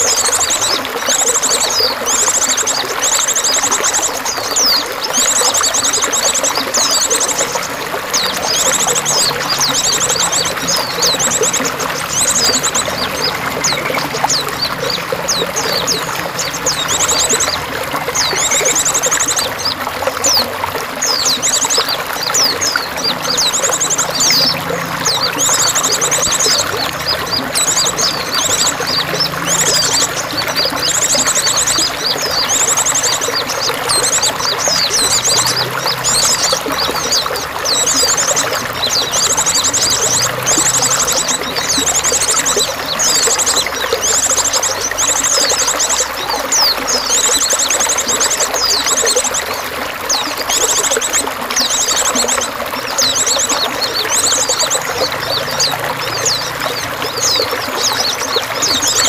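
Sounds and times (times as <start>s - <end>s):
running water trickling: 0.0s - 59.0s
songbirds chirping and trilling: 0.0s - 59.0s.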